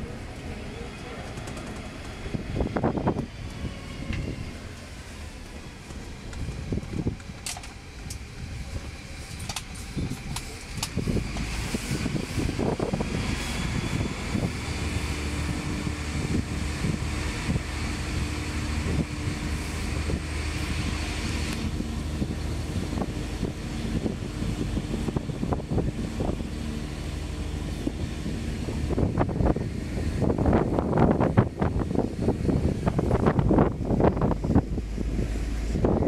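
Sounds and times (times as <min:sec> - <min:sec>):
bus engine humming: 0:00.0 - 0:36.0
road noise: 0:00.0 - 0:36.0
wind buffeting microphone: 0:01.0 - 0:36.0.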